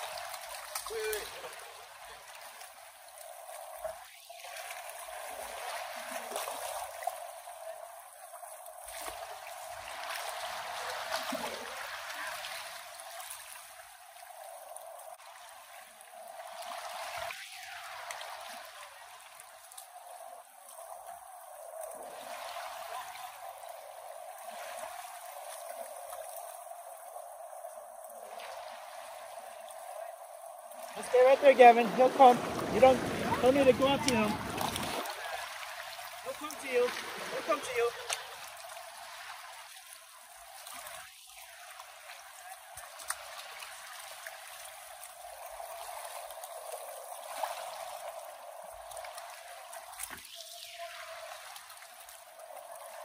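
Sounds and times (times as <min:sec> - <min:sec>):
river water rushing: 0:00.0 - 0:20.1, 0:20.9 - 0:53.0.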